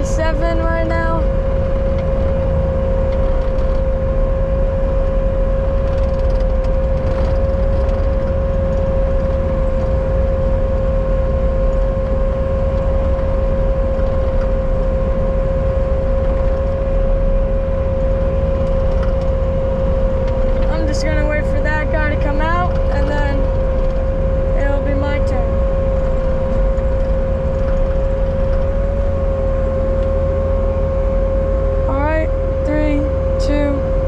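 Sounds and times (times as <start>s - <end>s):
diesel engine rumbling: 0.0s - 34.0s
high whine: 0.0s - 34.0s.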